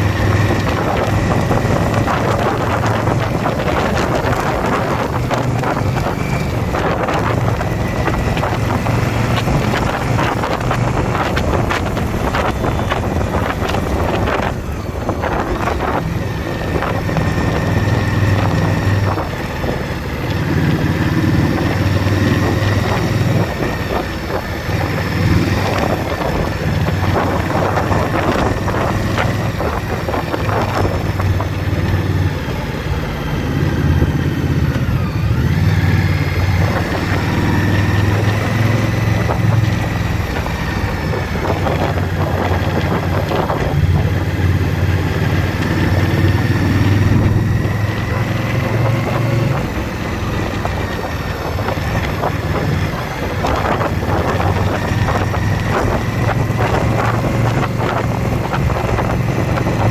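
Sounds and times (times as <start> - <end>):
motorcycle engine running: 0.0 - 59.9
wind on the microphone: 0.0 - 59.9.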